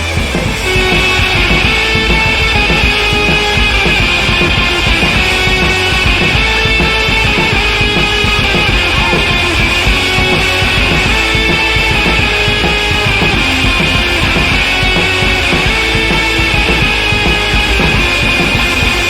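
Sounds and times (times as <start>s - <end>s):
rock music with distorted guitar: 0.0s - 19.0s.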